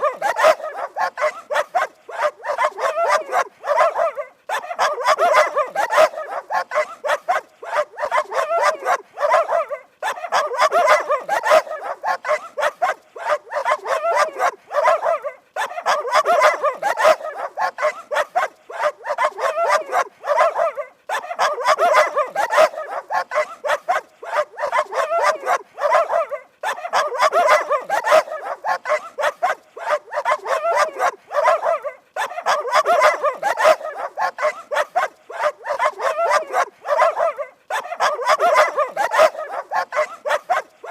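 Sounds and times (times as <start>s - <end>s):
dog barking: 0.0s - 40.9s.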